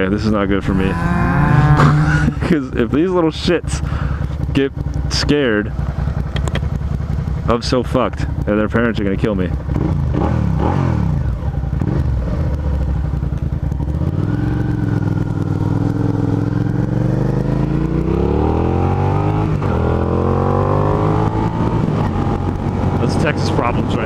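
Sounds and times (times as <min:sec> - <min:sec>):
motorcycle engine revving: 0:00.4 - 0:02.6, 0:03.2 - 0:24.0.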